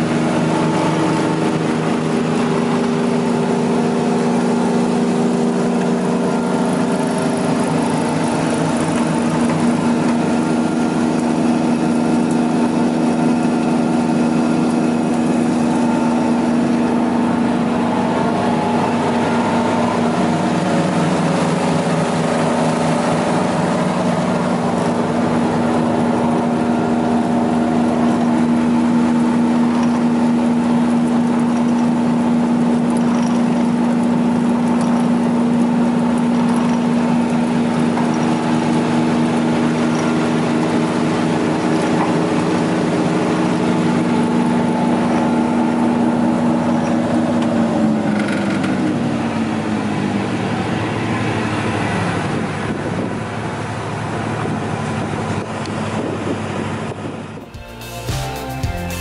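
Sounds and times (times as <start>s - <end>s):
machine motor humming: 0.0s - 48.3s.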